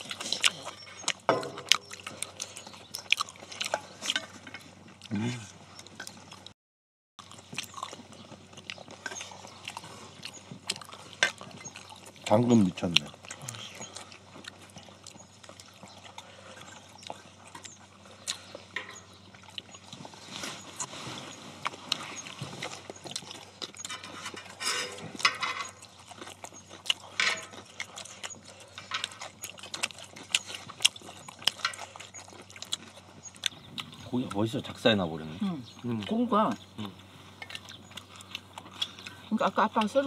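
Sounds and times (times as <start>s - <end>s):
people chewing: 0.0s - 6.5s, 7.2s - 40.0s.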